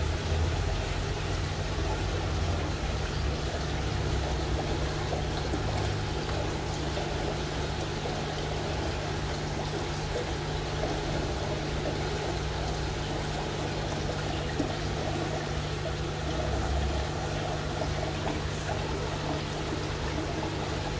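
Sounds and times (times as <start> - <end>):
water running and trickling: 0.0 - 20.9.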